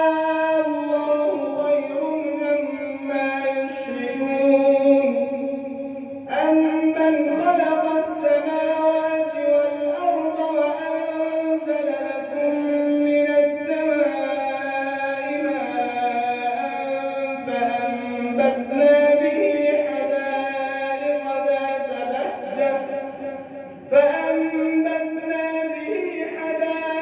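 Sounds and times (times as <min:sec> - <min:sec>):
man reciting melodically: 0:00.0 - 0:27.0.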